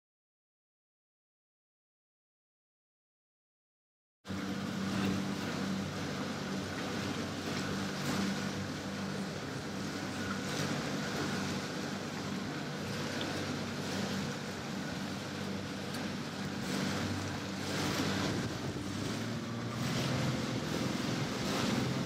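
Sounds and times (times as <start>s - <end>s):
motorboat engine: 4.3s - 22.0s
water rushing: 4.3s - 22.0s.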